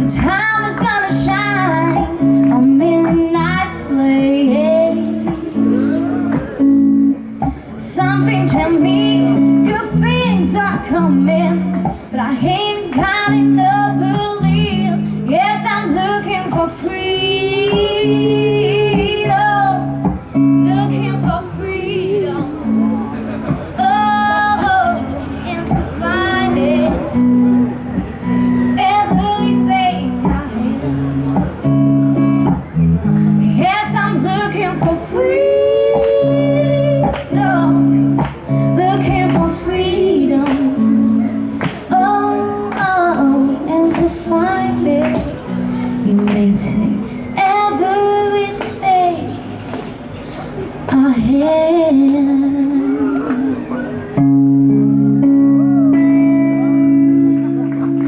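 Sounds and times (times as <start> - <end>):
woman singing wordless lines: 0.0 - 6.1, 7.6 - 22.9, 23.8 - 31.4, 33.3 - 49.6, 50.9 - 53.8
guitar: 0.0 - 58.0.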